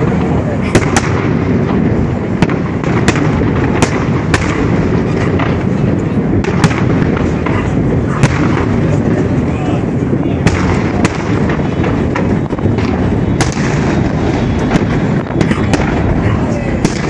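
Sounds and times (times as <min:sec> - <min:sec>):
firework shells bursting: 0:00.0 - 0:17.0
steady low rumble: 0:00.0 - 0:17.0.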